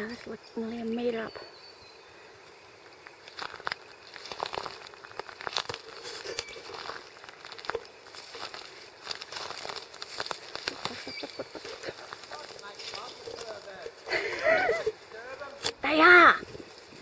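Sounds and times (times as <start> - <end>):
dry grass and leaves crackling: 2.2 - 17.0.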